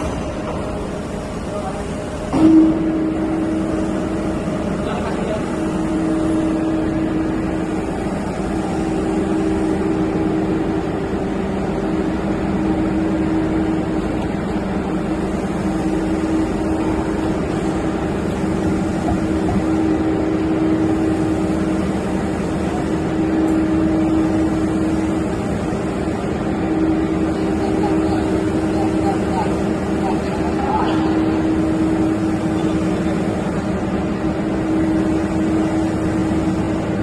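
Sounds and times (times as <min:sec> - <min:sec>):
machinery drone with hum: 0:00.0 - 0:37.0.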